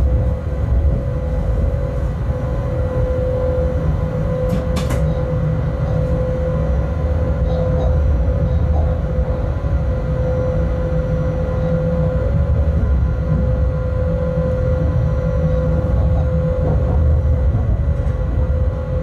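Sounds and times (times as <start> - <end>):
locomotive cab rumble: 0.0 - 19.0.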